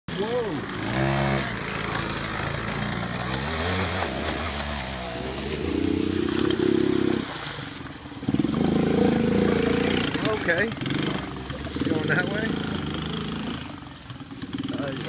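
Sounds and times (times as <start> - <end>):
atv engines revving: 0.1 - 15.0.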